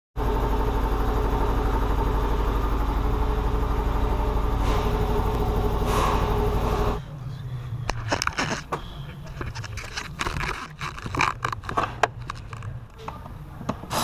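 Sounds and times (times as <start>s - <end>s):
car engine idling: 0.2s - 13.9s.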